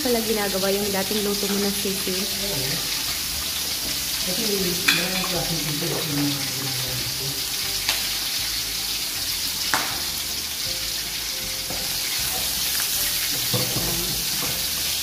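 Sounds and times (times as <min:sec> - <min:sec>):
meat sizzling in a wok: 0:00.0 - 0:15.0
spatula stirring in a pan: 0:01.4 - 0:06.6, 0:07.6 - 0:15.0.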